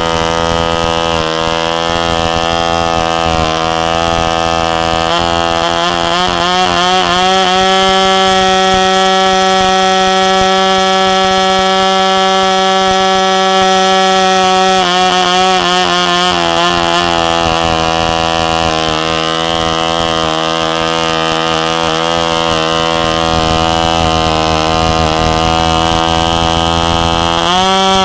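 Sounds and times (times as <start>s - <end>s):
model engine running: 0.0s - 28.0s.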